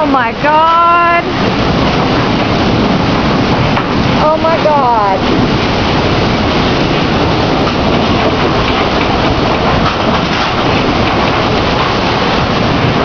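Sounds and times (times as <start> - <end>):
heavy rain in windstorm: 0.0 - 13.0.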